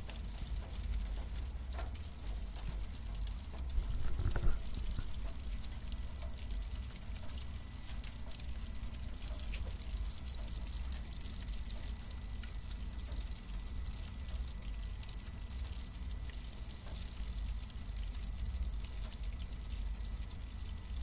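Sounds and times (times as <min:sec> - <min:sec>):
cardboard burning crackle: 0:00.0 - 0:21.0
low rumble of flames: 0:00.0 - 0:21.0.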